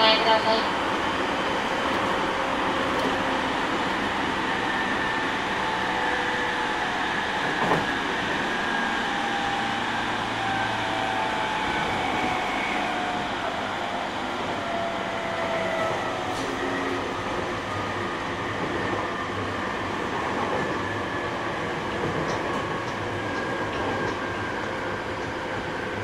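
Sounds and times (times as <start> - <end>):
train wheels and motors rumbling: 0.0 - 26.0.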